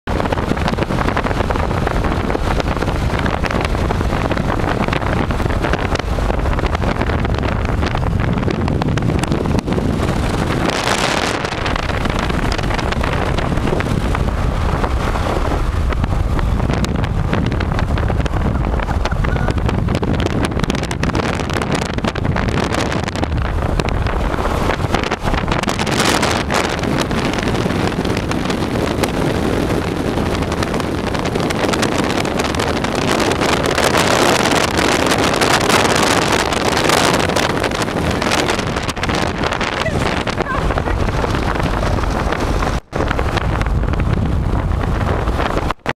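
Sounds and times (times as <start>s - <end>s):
car road noise: 0.0s - 45.9s
wind buffeting microphone: 0.0s - 45.9s.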